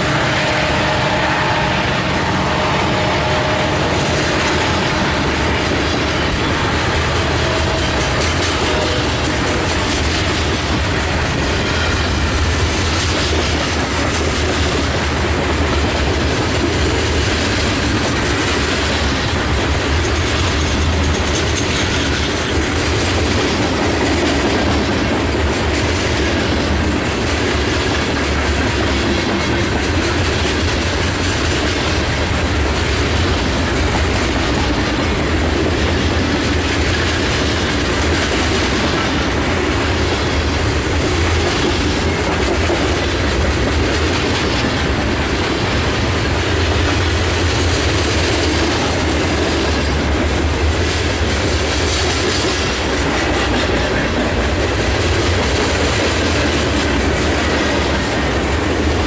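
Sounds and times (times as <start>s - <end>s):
steel wheels rumbling on rail: 0.0s - 59.0s
wheels clacking over rail joints: 0.0s - 59.0s.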